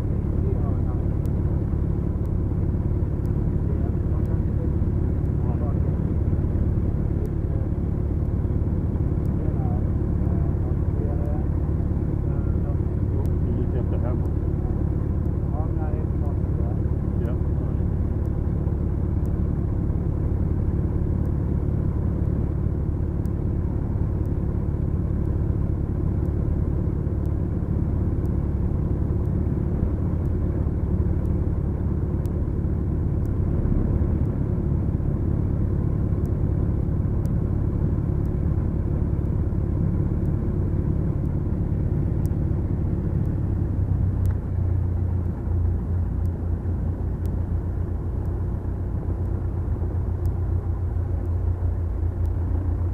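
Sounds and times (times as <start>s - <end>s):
twin aircraft engines running: 0.0s - 52.9s.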